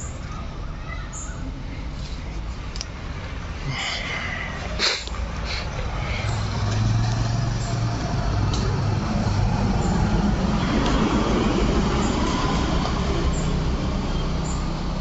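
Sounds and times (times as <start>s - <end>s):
outdoor background noise: 0.0s - 15.0s
vehicle engine hum: 0.0s - 15.0s.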